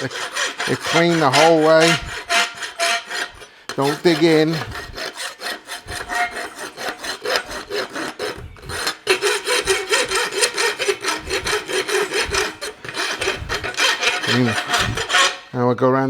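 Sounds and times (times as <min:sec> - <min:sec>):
rasp filing a steel horseshoe: 0:00.0 - 0:15.6.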